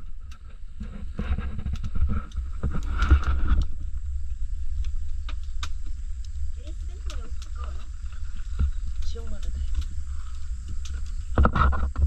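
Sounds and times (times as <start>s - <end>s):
fire crackling and popping: 0.0s - 12.0s
steady low rumble: 0.0s - 12.0s.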